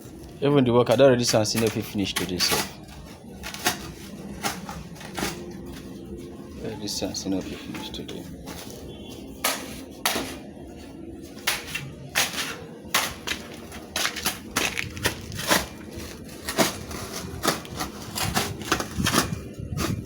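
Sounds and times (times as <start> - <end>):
scraping: 0.0 - 20.0.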